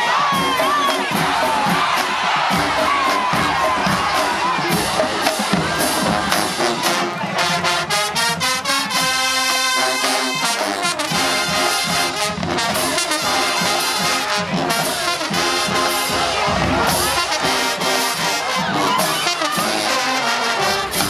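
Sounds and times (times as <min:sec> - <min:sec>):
drums: 0:00.0 - 0:21.0
marching band playing: 0:00.0 - 0:21.0.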